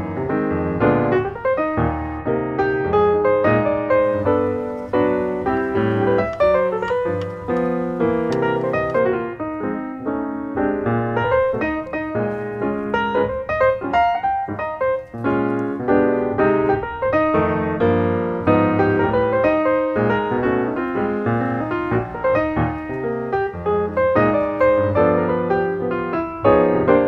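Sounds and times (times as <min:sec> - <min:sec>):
lively piano tune: 0:00.0 - 0:27.0.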